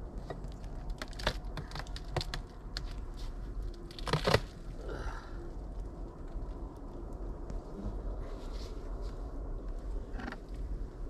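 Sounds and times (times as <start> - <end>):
light clicks and crinkling: 0.0 - 11.0.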